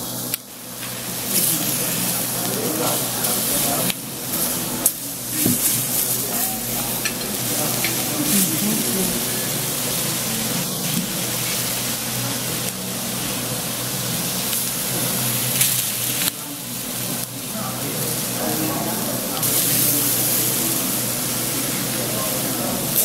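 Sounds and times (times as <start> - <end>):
meat sizzling on hot stone: 0.0 - 23.0.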